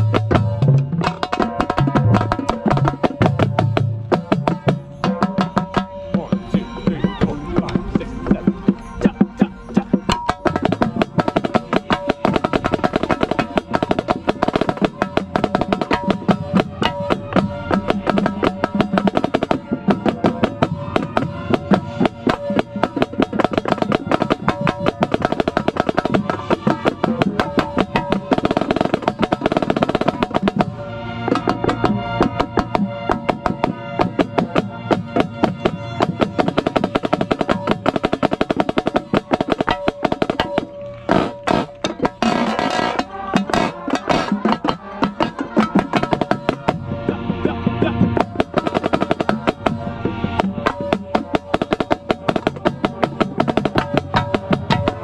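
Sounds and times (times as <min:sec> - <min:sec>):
marching band sustained chords: 0:00.0 - 0:55.0
marching snare drum rolls: 0:00.0 - 0:55.0.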